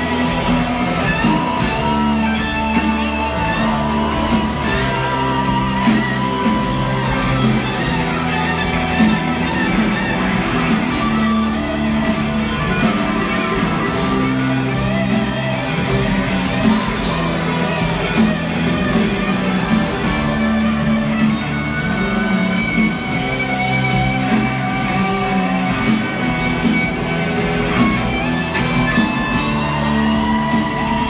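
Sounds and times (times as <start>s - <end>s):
electric guitar chords: 0.0s - 31.0s
live rock band playing: 0.0s - 31.0s.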